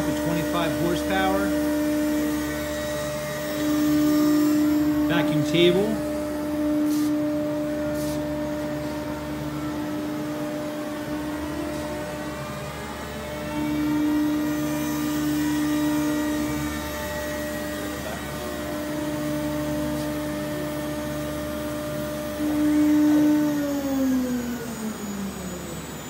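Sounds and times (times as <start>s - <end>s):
cnc router machine hum: 0.0s - 26.0s.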